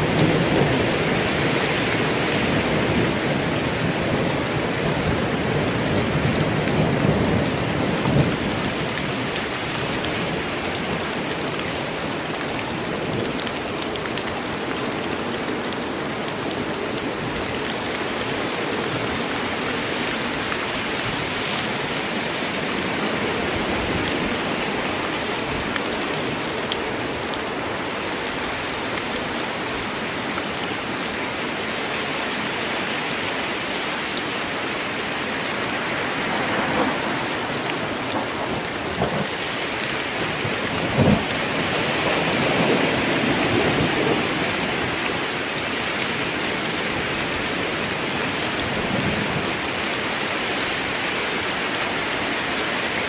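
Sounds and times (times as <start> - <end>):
rain falling in forest: 0.0 - 53.0.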